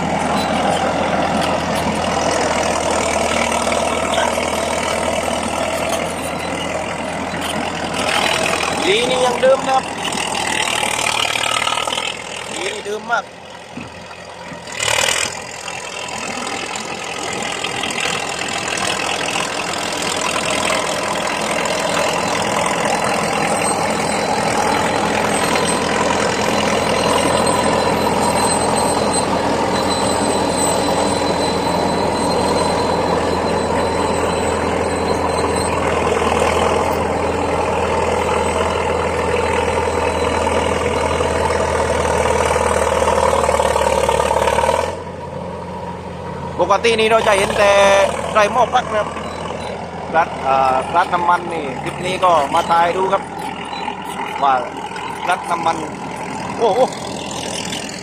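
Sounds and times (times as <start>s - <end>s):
loud bulldozer diesel engine: 0.0s - 58.0s.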